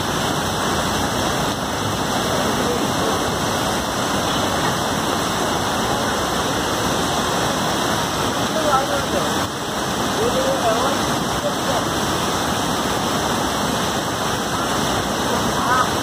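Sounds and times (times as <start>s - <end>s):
rain falling: 0.0s - 16.0s
river rushing in flood: 0.0s - 16.0s.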